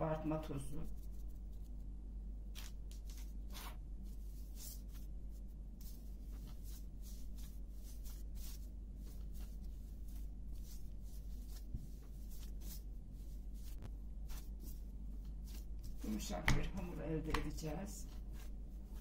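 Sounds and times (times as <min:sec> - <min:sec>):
hands kneading dough: 0:00.0 - 0:19.0
steady low hum: 0:00.0 - 0:19.0.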